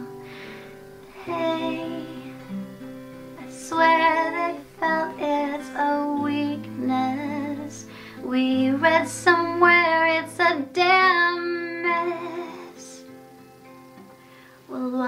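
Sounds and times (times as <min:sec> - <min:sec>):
woman singing: 0:00.0 - 0:02.6, 0:03.3 - 0:13.1, 0:14.6 - 0:15.0
acoustic guitar: 0:00.0 - 0:15.0.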